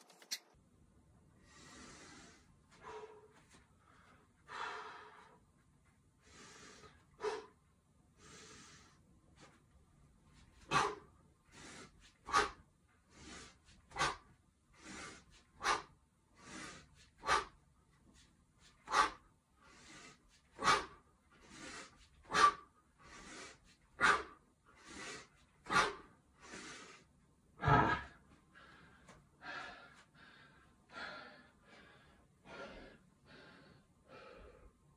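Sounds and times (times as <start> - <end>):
man breathing heavily: 1.4 - 5.5, 6.1 - 9.6, 10.4 - 34.9.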